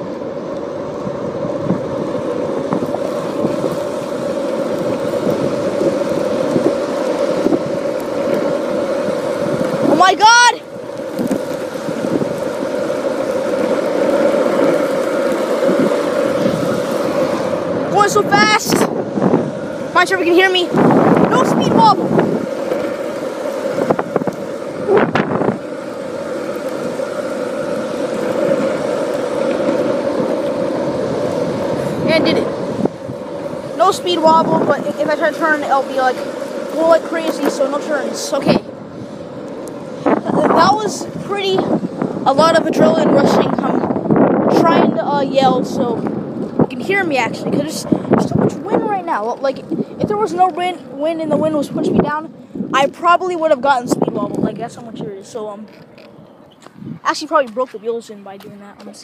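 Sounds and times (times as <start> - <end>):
skateboard wheels rolling on asphalt: 0.0 - 59.0
wind on microphone: 0.0 - 59.0.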